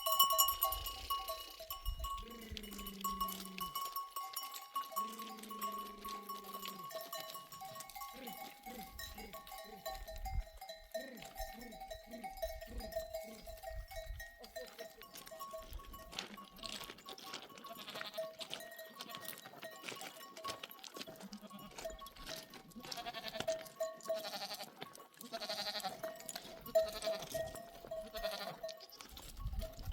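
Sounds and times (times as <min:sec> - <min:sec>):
sheep and goats bleating: 0:00.0 - 0:29.9.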